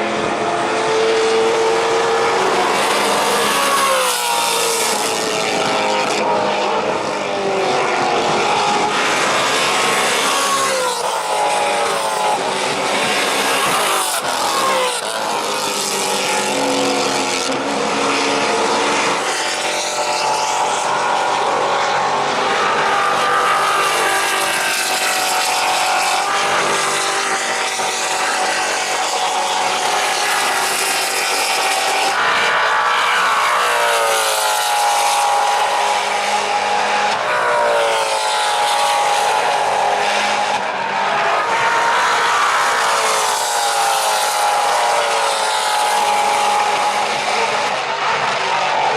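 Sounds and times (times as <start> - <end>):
race car engines passing: 0.0 - 48.9.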